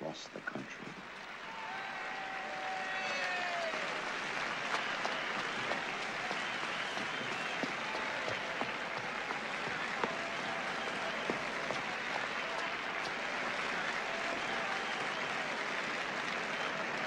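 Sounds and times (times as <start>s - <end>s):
crowd applauding: 0.8s - 17.0s.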